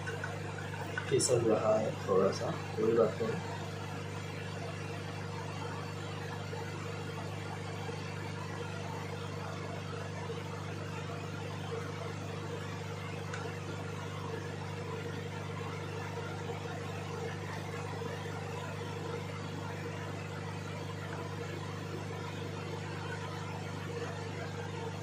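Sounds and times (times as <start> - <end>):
hot air station whirring: 0.0 - 25.0.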